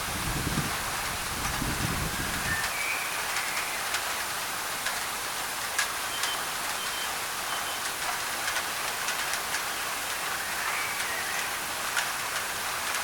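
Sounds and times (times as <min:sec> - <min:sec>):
rain on a tin roof: 0:00.0 - 0:13.0
white noise hiss: 0:00.0 - 0:13.0.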